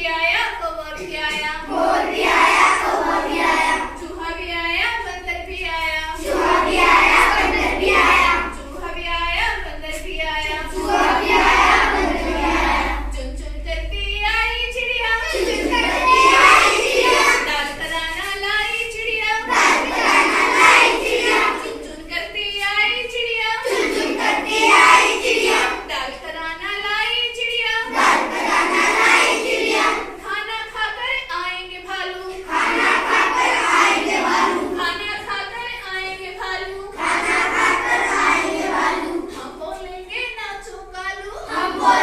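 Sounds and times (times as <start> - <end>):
children singing together: 0.0 - 9.0, 9.8 - 26.4, 27.2 - 30.9, 31.8 - 40.0, 40.9 - 42.0.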